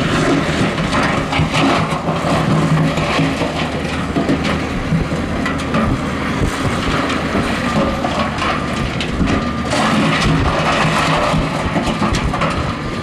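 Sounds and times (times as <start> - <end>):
diesel engine running under load: 0.0 - 13.0
gravel and rock crunching: 0.0 - 13.0
rattling and clanking machinery: 0.0 - 13.0.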